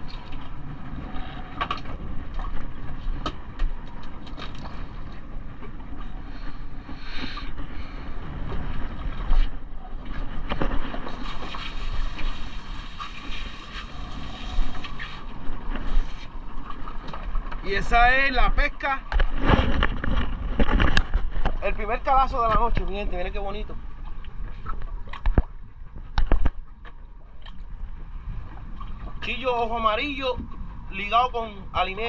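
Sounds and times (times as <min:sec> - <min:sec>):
wind on microphone: 0:00.0 - 0:16.8, 0:17.6 - 0:26.7
water and boat hull noise: 0:00.0 - 0:32.0.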